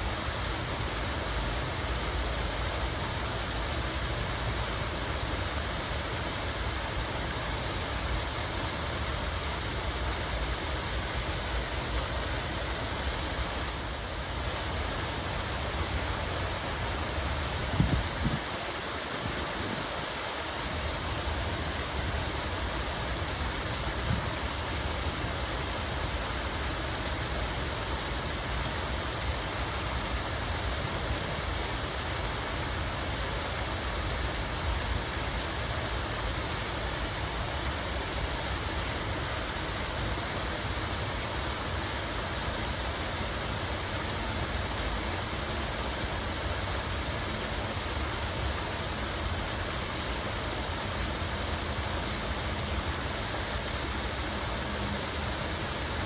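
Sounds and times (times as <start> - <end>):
water pouring and splashing: 0.0 - 56.0.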